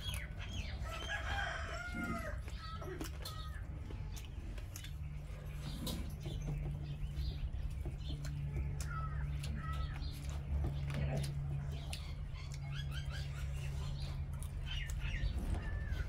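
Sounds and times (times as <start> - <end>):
chewing and mouth smacks: 0.0 - 1.1, 2.2 - 16.0
low steady hum: 0.0 - 16.0.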